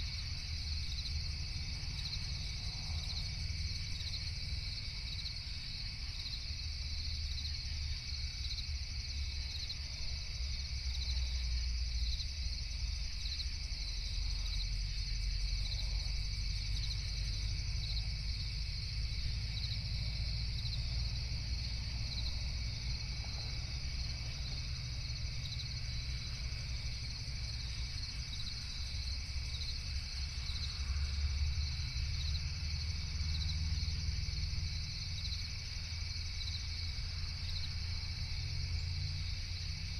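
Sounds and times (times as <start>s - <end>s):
crickets trilling: 0.0s - 39.9s
low steady rumble: 0.0s - 39.9s.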